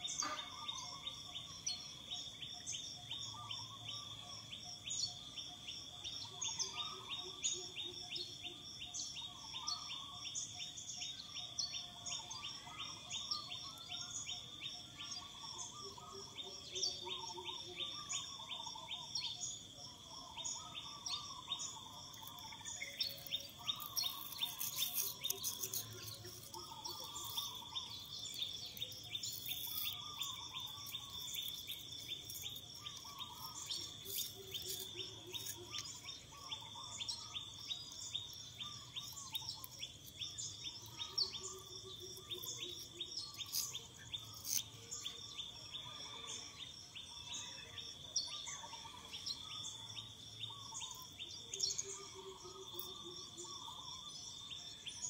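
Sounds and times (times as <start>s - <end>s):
insects droning and chirping: 0.0s - 55.0s.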